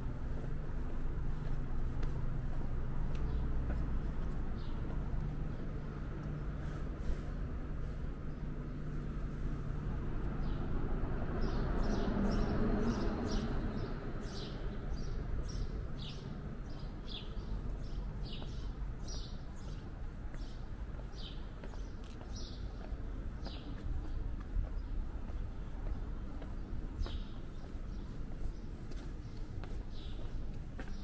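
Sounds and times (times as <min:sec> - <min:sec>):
city background hum: 0:00.0 - 0:31.0.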